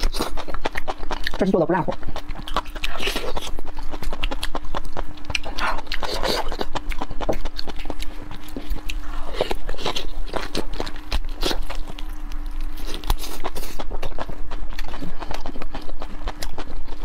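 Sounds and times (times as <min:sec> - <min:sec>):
chewing and lip-smacking: 0:00.0 - 0:17.0
faint steady hum: 0:00.0 - 0:17.0.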